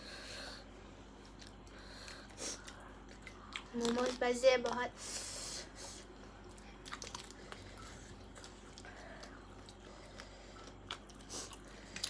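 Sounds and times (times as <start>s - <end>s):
chewing food: 1.1s - 5.2s, 5.9s - 12.0s.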